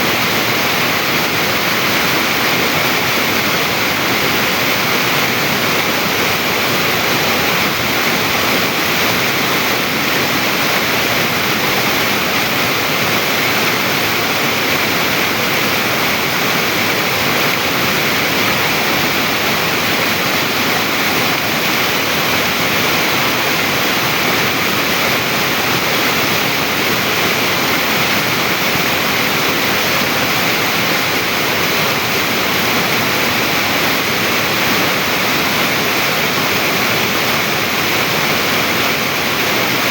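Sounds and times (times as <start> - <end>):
stream rushing over rock: 0.0 - 39.9.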